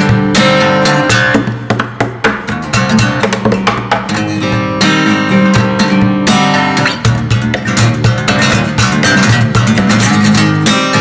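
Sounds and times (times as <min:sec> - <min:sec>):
fingerstyle acoustic guitar: 0:00.0 - 0:11.0.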